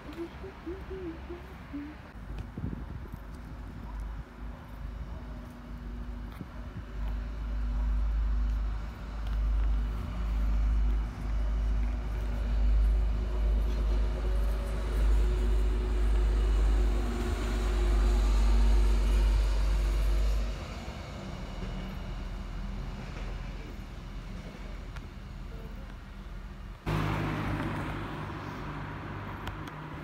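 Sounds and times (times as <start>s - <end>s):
train hum: 0.0s - 30.0s.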